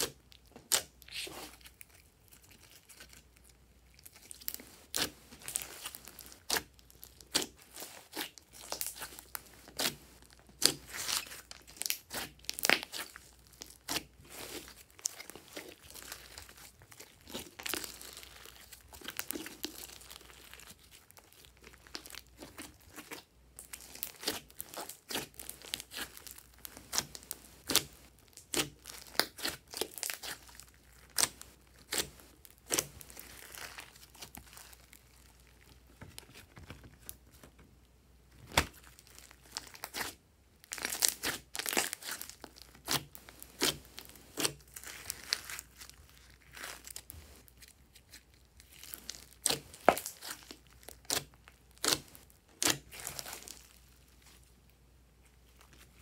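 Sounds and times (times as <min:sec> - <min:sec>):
slime crackling and popping: 0:00.0 - 0:35.9, 0:38.4 - 0:54.1.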